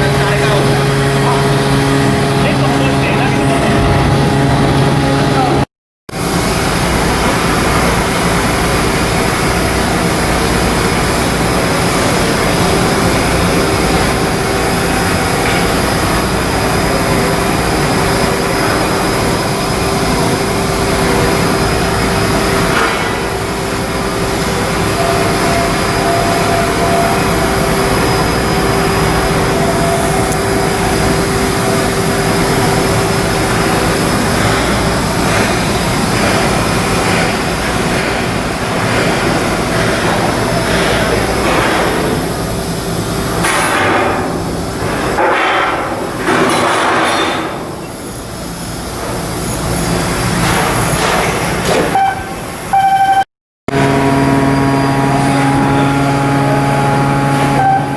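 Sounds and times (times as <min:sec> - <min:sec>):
machinery drone: 0:00.0 - 0:57.9.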